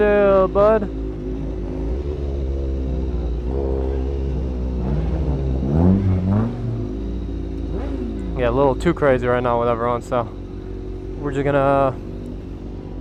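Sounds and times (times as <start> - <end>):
motorcycle engine revving: 0.0 - 13.0
motorcycle engines idling: 0.0 - 13.0.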